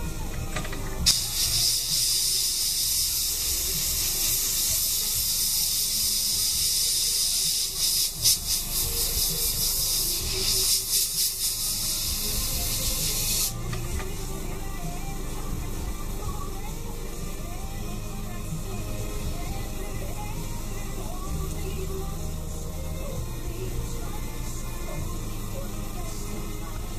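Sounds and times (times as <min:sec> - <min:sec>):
airbrush hissing: 0:00.9 - 0:26.9.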